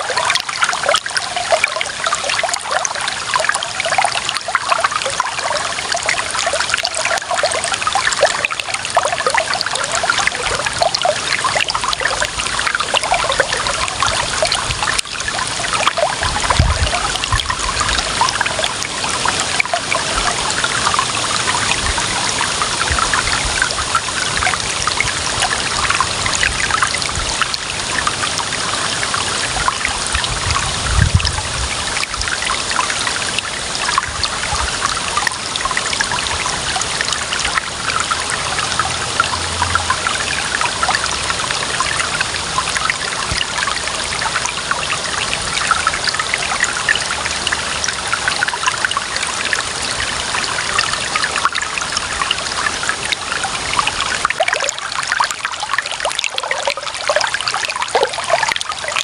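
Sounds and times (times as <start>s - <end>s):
running water trickling and splashing: 0.0s - 59.0s.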